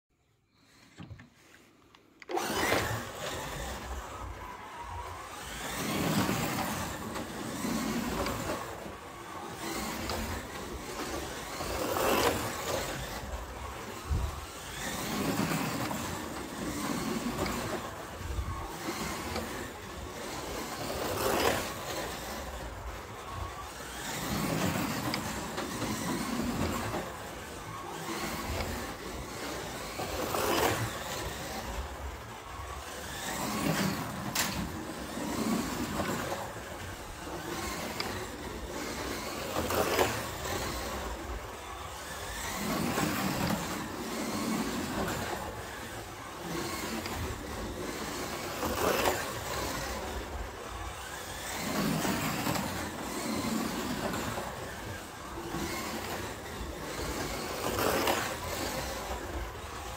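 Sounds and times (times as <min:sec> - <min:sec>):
slot cars whirring and rattling: 0:00.4 - 0:59.9.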